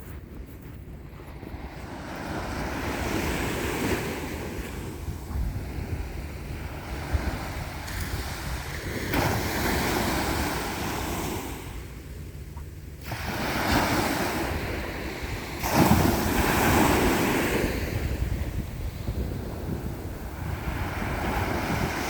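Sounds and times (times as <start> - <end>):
wind buffeting microphone: 0.0 - 22.0
ocean waves breaking: 1.3 - 22.0.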